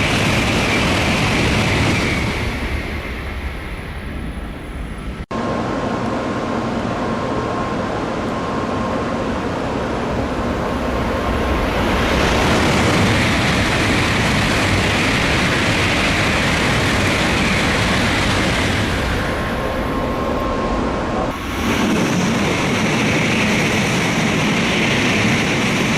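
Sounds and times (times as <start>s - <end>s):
bullet train passing: 0.0s - 25.9s.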